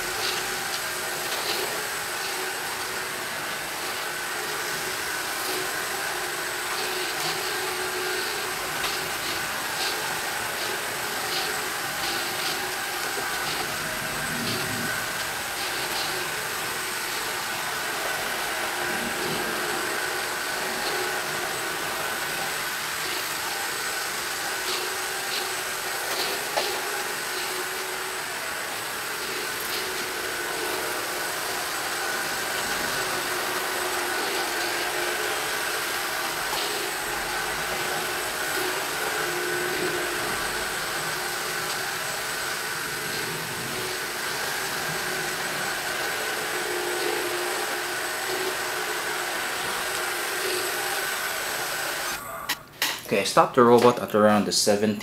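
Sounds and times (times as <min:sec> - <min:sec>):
robot vacuum whirring: 0:00.0 - 0:52.7
high whine: 0:00.0 - 0:53.6.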